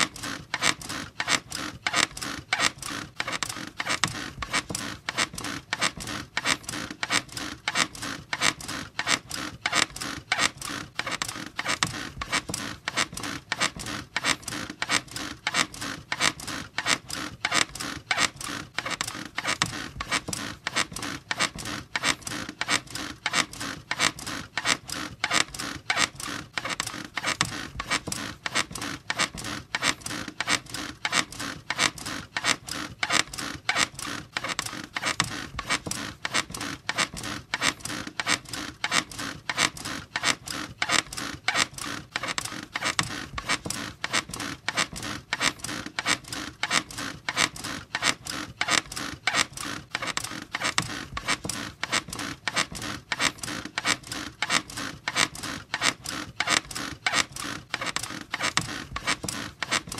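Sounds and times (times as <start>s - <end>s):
bed squeaking rhythmically: 0.0s - 59.9s.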